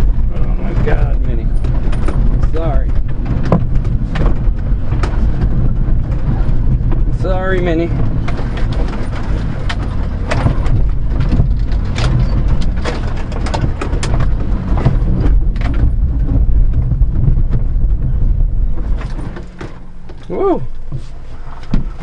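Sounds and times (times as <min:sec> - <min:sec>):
cab knocks and rattles: 0:00.0 - 0:22.0
truck engine running: 0:00.0 - 0:22.0.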